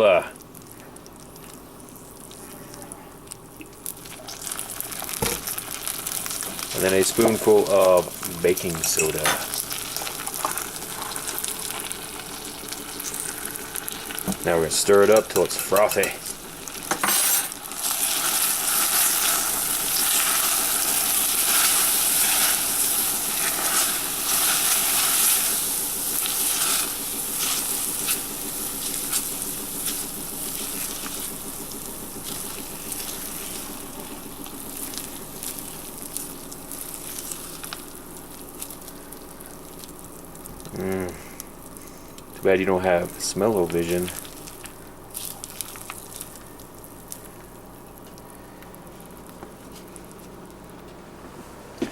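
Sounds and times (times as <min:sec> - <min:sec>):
molten sugar hissing: 0:00.0 - 0:50.3.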